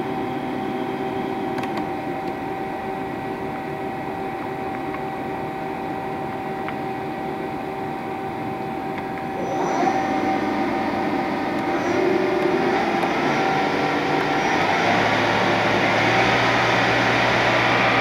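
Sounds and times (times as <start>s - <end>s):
lathe machine whine and hum: 0.0s - 18.0s.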